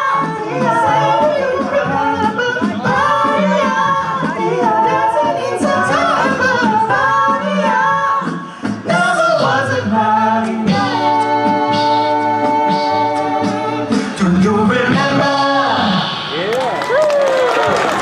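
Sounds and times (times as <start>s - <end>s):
male a cappella group singing: 0.0s - 16.4s.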